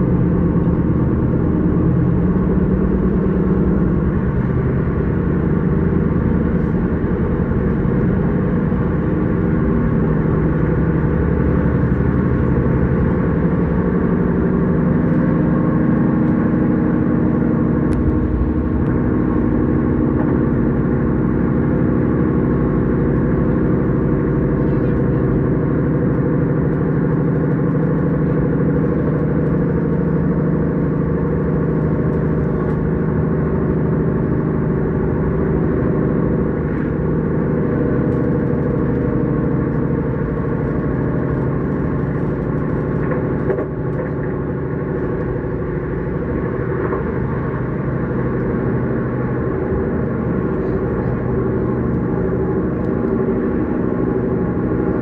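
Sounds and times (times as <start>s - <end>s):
electric train humming: 0.0s - 55.0s.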